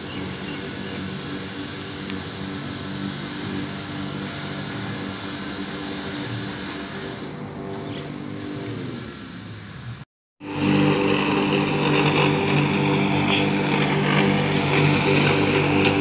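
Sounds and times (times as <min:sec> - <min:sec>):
electric lawn mower motor humming: 0:00.0 - 0:09.5, 0:10.4 - 0:16.0.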